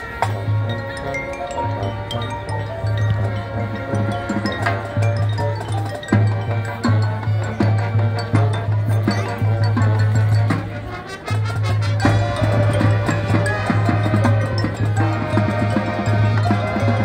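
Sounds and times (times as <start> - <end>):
marching band playing: 0.0 - 17.0
marimbas and percussion: 0.0 - 17.0.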